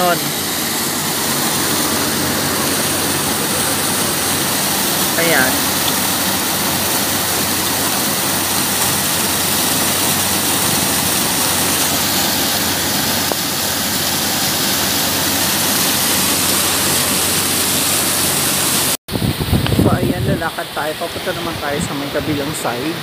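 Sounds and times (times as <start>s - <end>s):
water splashing into pool: 0.0s - 19.0s.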